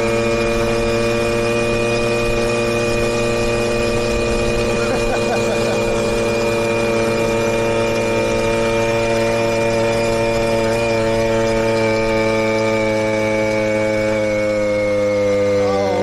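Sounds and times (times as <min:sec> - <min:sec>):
moped engine buzzing: 0:00.0 - 0:16.0.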